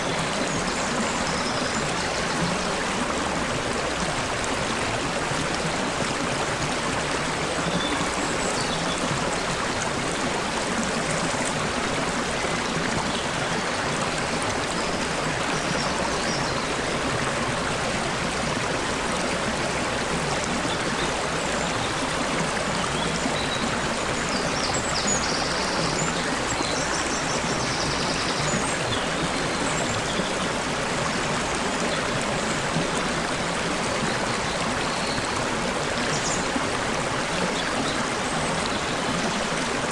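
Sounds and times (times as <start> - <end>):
stream water flowing and trickling: 0.0 - 39.9.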